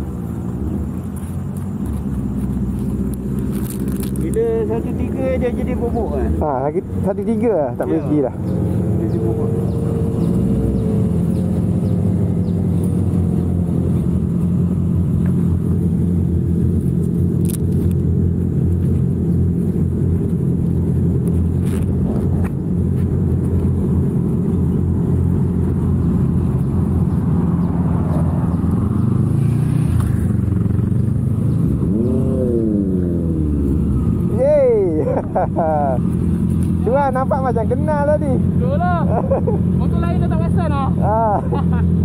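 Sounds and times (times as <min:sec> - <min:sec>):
approaching motorcycles: 0:00.0 - 0:42.0.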